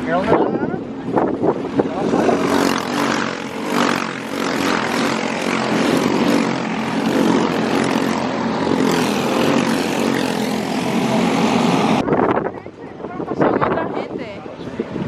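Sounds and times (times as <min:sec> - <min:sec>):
kart engines droning: 0:00.0 - 0:12.1.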